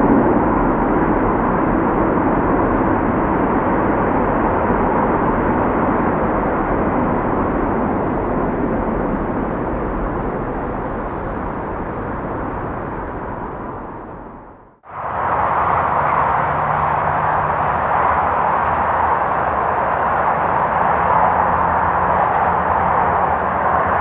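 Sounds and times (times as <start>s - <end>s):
distant freeway traffic: 0.0s - 24.0s.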